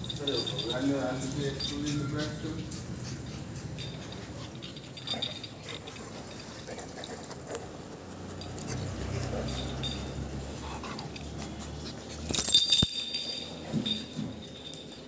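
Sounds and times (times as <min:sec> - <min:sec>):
dogs playing on tiled floor: 0:00.0 - 0:15.0
small clicks and jingly ticks: 0:00.0 - 0:15.0.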